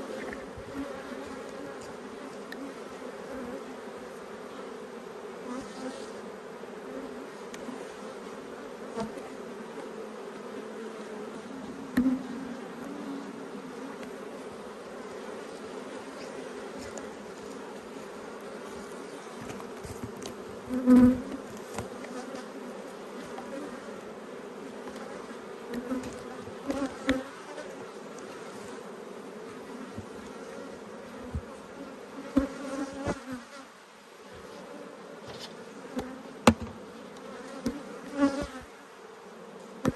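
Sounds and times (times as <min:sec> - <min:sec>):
bee colony humming: 0:00.0 - 0:39.9
bees flying past: 0:00.0 - 0:39.9.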